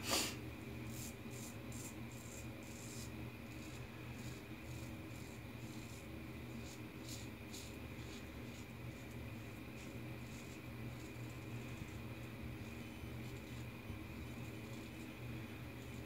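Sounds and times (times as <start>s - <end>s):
razor scraping stubble: 0.9s - 16.0s.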